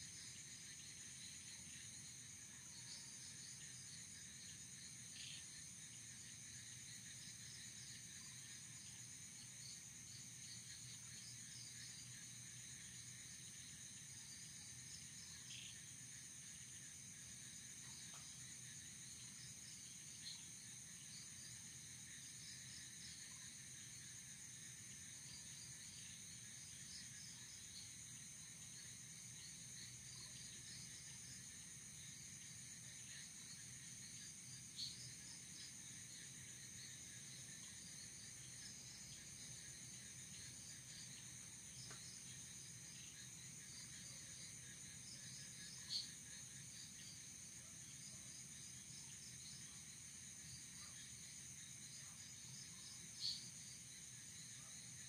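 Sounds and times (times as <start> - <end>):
cricket chirps: 0.0 - 55.0
insects trilling: 0.0 - 55.0.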